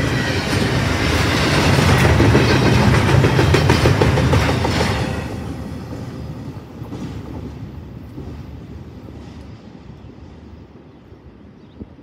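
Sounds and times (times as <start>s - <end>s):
freight train rolling past: 0.0s - 11.7s.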